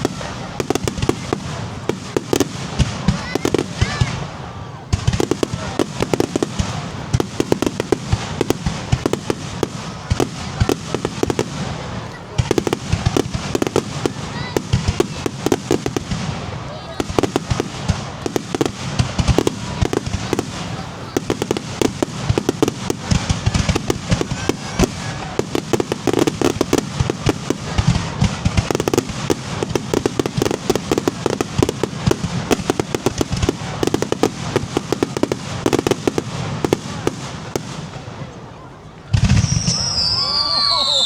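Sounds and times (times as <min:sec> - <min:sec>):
heavy firework booms: 0:00.0 - 0:40.8
fireworks bangs and crackles: 0:00.0 - 0:41.0.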